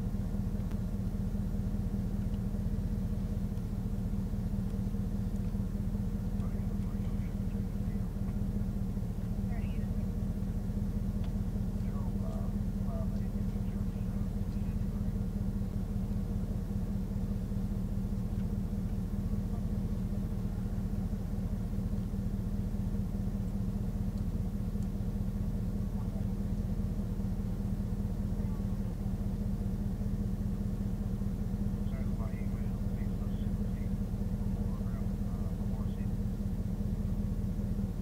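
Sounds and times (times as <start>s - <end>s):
vehicle engine idling: 0.0s - 38.0s.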